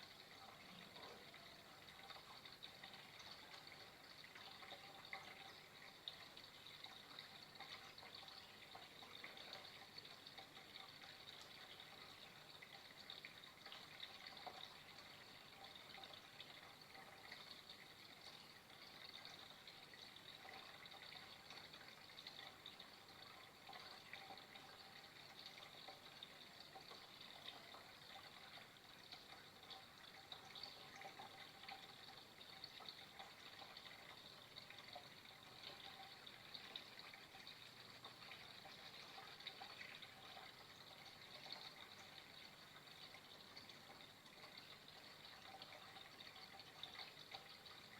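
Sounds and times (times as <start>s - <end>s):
water trickling: 0.0s - 47.9s.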